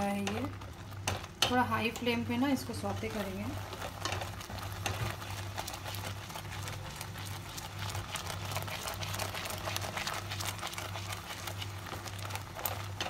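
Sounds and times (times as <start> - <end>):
masala bubbling in a pan: 0.0 - 13.0
spatula stirring: 0.0 - 13.0.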